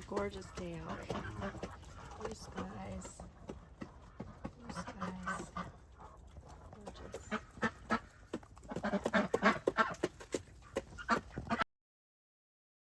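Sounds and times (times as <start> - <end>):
chickens clucking: 0.0 - 11.7.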